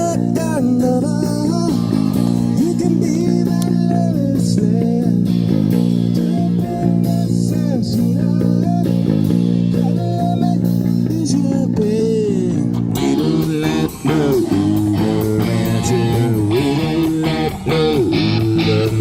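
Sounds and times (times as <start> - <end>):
bass guitar: 0.0 - 19.0
drums: 0.0 - 19.0
electric guitar bending notes: 0.0 - 19.0.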